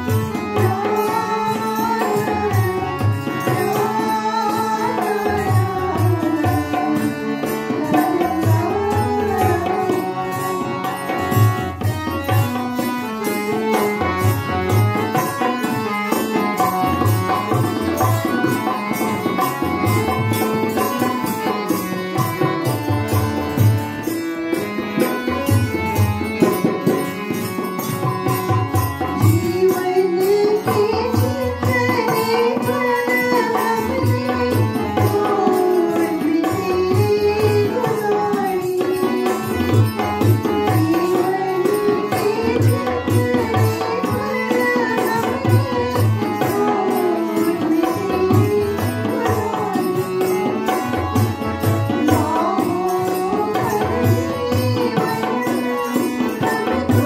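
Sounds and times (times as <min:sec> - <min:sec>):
harmonium chords: 0:00.0 - 0:57.0
woman singing into microphone: 0:00.0 - 0:57.0.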